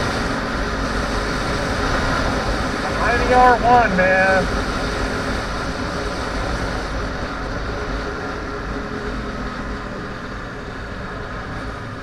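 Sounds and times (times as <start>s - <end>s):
wind rush on microphone: 0.0s - 12.0s.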